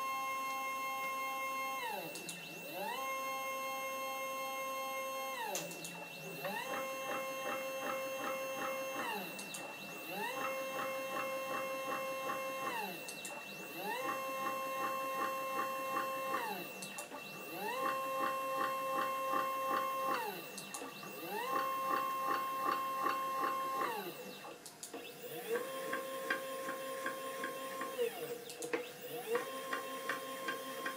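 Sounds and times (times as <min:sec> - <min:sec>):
stepper motor whine: 0:00.0 - 0:30.9.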